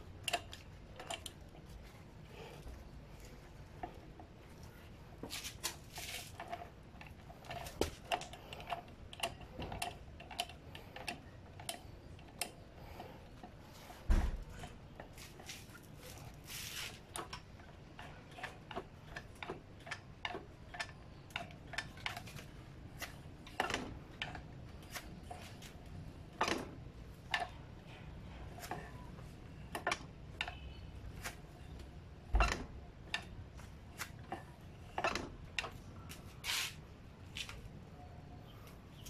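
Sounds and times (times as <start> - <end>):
light clicks and knocks of tools: 0.0 - 37.7.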